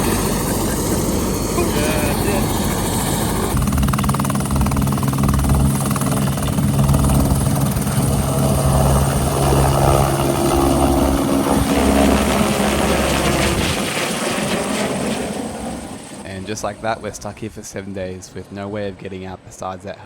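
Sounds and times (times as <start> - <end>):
helicopter turbine and rotor drone: 0.0 - 20.0.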